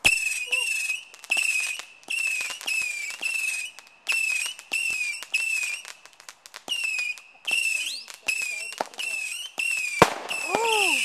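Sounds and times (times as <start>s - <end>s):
firework cracks: 0.0s - 11.0s
whistling firework whistles: 0.0s - 11.0s.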